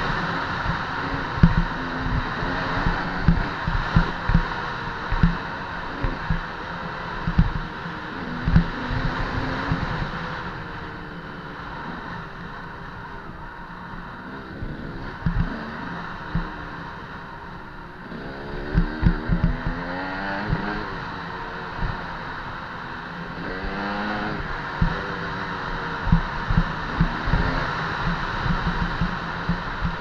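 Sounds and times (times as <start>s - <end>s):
dirt bike engine revving: 0.0s - 13.4s, 14.0s - 30.0s.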